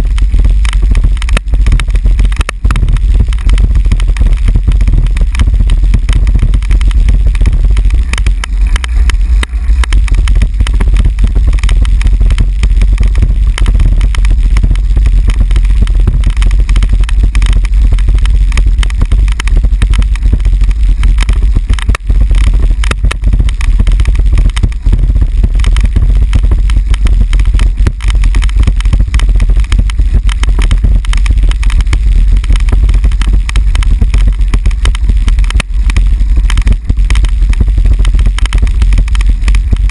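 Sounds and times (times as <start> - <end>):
bicycle rolling over cobblestones: 0.0 - 39.9.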